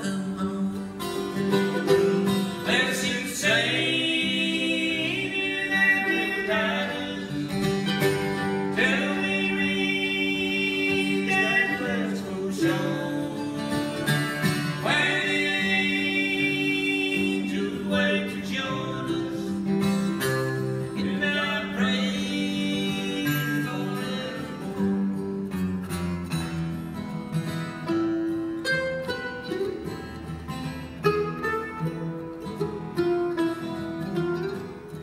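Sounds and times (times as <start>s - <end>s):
acoustic guitar strumming: 0.0s - 35.0s
mandolin playing: 0.0s - 35.0s.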